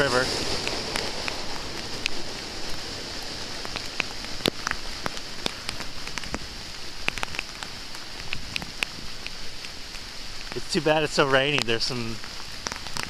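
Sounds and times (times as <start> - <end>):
heavy rain falling: 0.0 - 13.0
raindrops ticking on microphone: 0.0 - 13.0.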